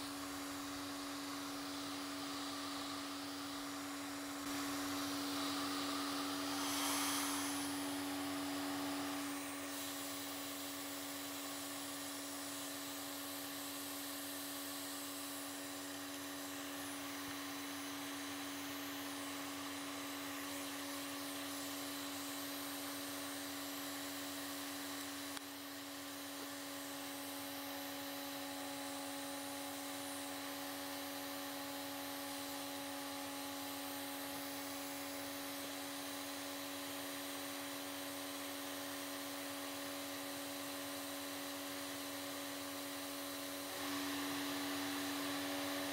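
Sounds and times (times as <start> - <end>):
small electric motor whining: 0.0 - 45.9.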